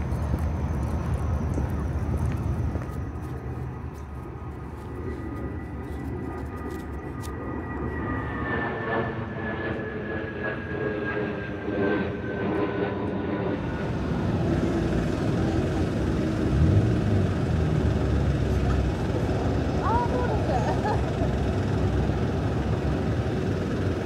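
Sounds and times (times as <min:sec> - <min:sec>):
engine rumble: 0:00.0 - 0:24.0.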